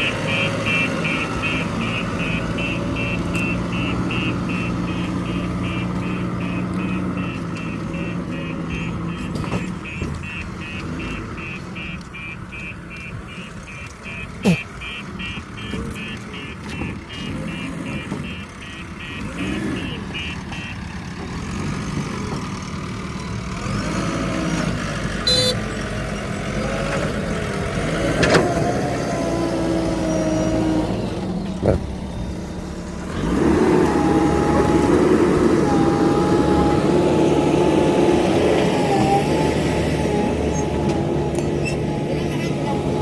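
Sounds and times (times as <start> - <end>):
heavy equipment diesel engines: 0.0 - 43.0.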